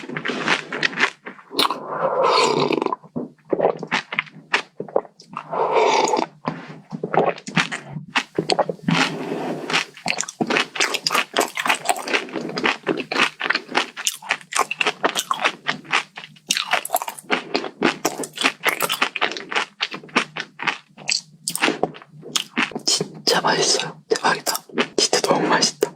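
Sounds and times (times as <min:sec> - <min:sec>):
mouth chewing crunchy dessert: 0:00.0 - 0:25.9.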